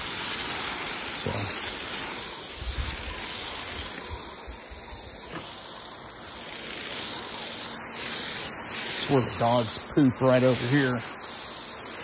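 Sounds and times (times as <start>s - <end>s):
hose sprayer hissing: 0.0s - 12.0s.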